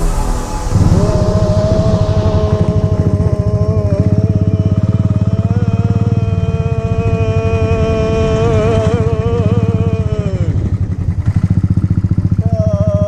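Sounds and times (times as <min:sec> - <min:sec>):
held wavering tone: 0:00.0 - 0:12.8
motorcycle engine running: 0:00.0 - 0:13.0.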